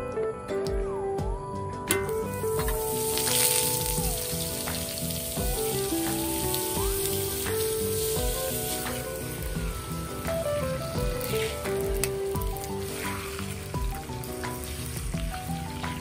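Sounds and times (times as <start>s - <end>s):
background music: 0.0s - 16.0s
banana sizzling in oil: 2.0s - 16.0s.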